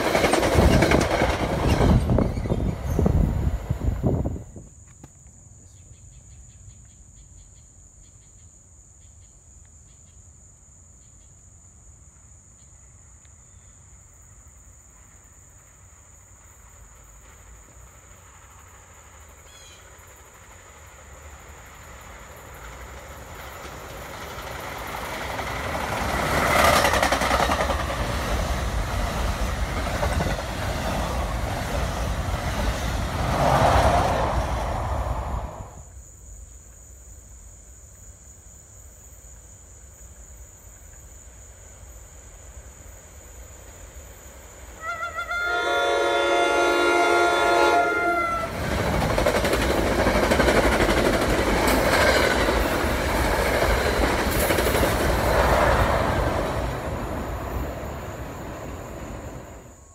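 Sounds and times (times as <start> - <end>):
train running on rails: 0.0 - 5.1, 11.9 - 37.8, 39.2 - 59.9.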